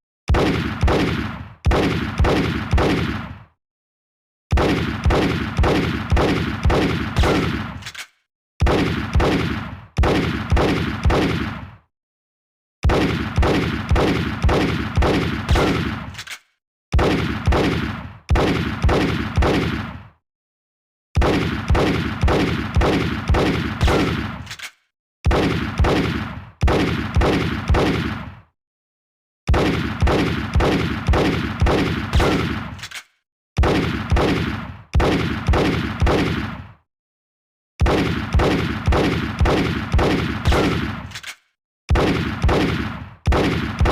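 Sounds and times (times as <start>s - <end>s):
revolver gunshots: 0.3s - 3.5s, 4.5s - 11.8s, 12.8s - 16.4s, 17.0s - 20.1s, 21.2s - 28.4s, 29.5s - 36.7s, 37.8s - 43.9s.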